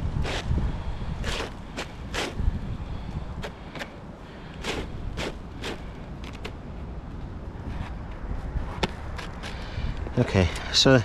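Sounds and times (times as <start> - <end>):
scuffs on asphalt shingles: 0.0 - 10.6
wind rumble on microphone: 0.0 - 10.8.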